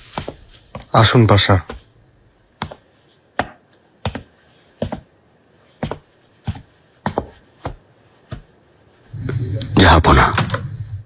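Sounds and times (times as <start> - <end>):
hard-soled footsteps on hard floor: 0.0 - 9.0.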